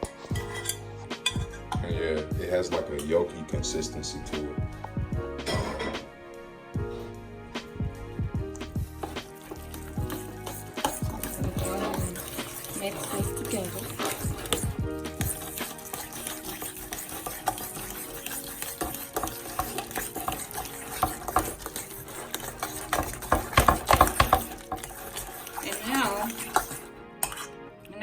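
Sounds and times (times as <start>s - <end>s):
utensil scraping sticky mixture: 0.0s - 6.1s, 6.8s - 27.6s.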